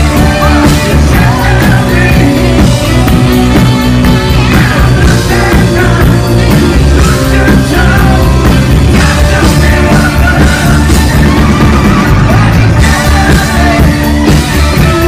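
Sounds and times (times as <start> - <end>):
live rock band playing: 0.0 - 15.0
person singing: 0.0 - 15.0.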